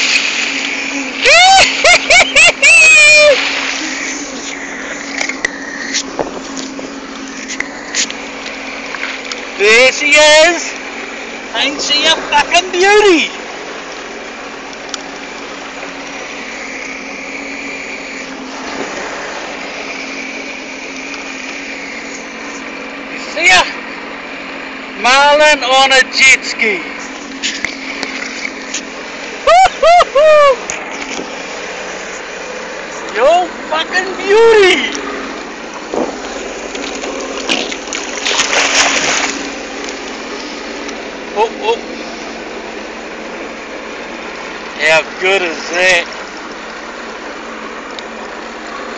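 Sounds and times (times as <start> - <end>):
water splashing: 0.0 - 22.9, 26.6 - 48.9
jet ski engine running: 0.0 - 48.9.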